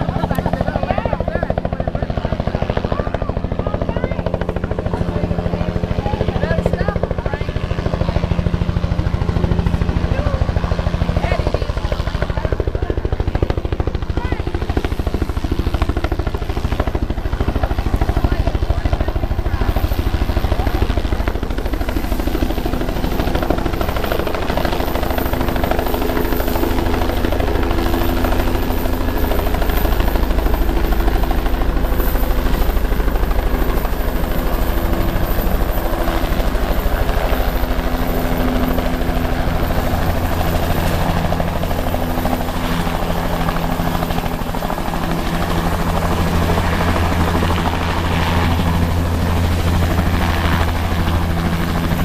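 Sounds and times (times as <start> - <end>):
helicopter rotor beating: 0.0 - 52.0.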